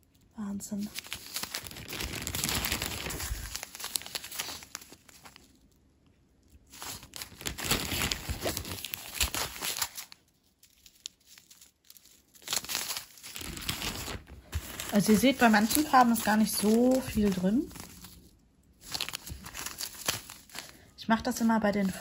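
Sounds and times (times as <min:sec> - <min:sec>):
plastic bags of beads crinkling: 0:00.0 - 0:05.8, 0:06.4 - 0:22.0.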